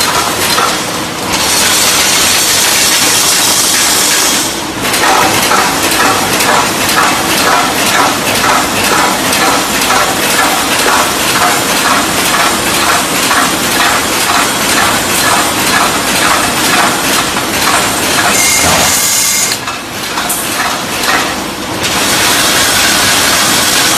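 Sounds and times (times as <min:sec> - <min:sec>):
welding machine metallic clatter: 0:00.0 - 0:23.9.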